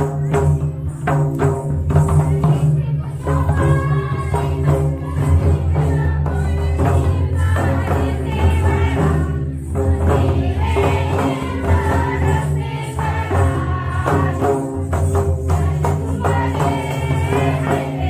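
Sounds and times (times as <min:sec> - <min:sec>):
drum beating: 0:00.0 - 0:18.0
jingling percussion: 0:00.0 - 0:18.0
group of voices singing: 0:01.9 - 0:18.0.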